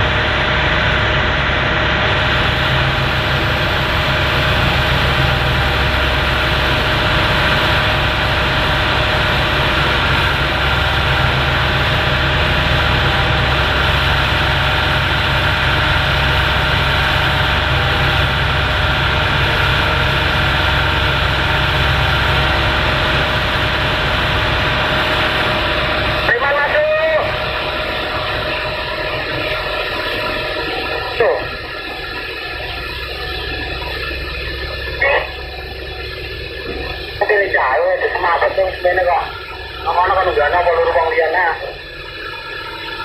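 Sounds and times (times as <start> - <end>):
constant whine: 0.0 - 43.0
excavator diesel engine running: 0.0 - 43.0.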